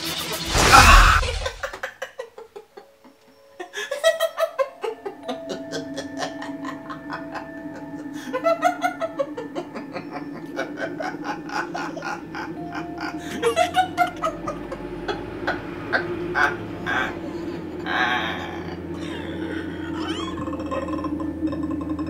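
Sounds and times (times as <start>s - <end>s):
background music: 0.0s - 22.0s
man laughing: 0.6s - 3.0s, 3.6s - 22.0s.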